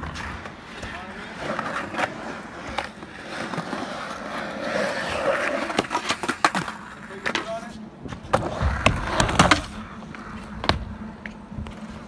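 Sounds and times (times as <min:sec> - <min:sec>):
skateboard clacks: 0:00.0 - 0:12.0
skateboard wheels rolling on concrete: 0:00.0 - 0:12.0.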